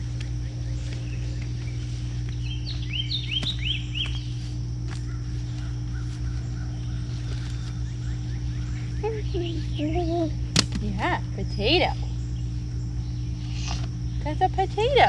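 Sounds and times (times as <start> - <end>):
songbird chirping: 0.0 - 15.0
steady low hum: 0.0 - 15.0.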